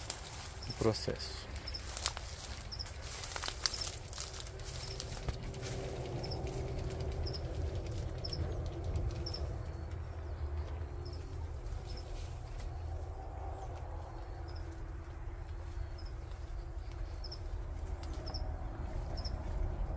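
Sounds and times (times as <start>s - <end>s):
low outdoor rumble: 0.0s - 19.9s.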